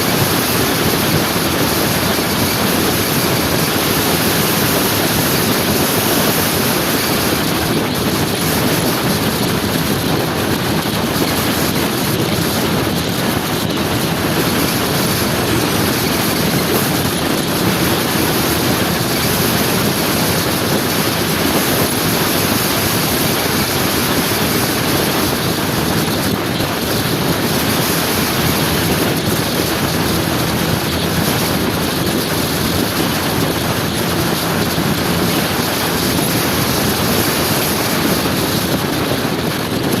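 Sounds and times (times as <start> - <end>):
scooter engine running: 0.0 - 40.0
wind rushing on microphone: 0.0 - 40.0.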